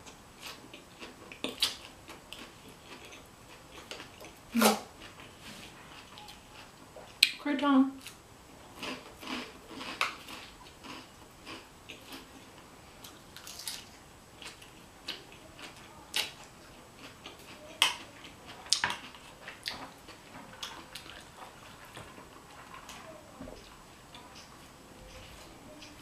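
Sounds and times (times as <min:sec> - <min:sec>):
chewing and crunching salad: 0:00.0 - 0:07.4, 0:08.0 - 0:26.0.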